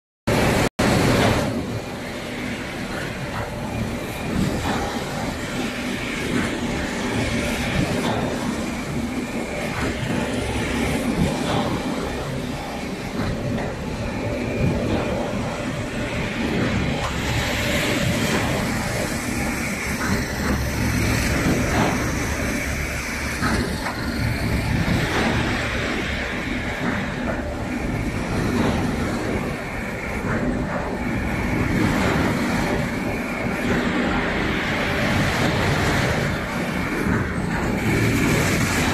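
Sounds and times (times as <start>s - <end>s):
folding machine mechanical din: 0.3s - 38.9s.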